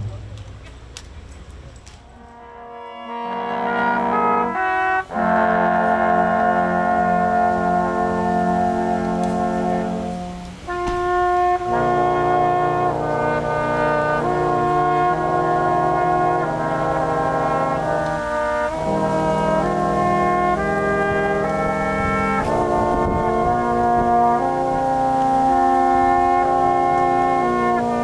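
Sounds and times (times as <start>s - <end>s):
brass quintet playing held chords: 2.1s - 28.0s.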